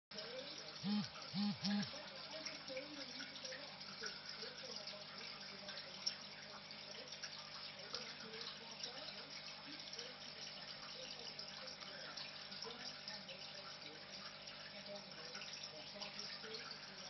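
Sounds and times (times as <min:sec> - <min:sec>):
water running and splashing: 0:00.1 - 0:17.0.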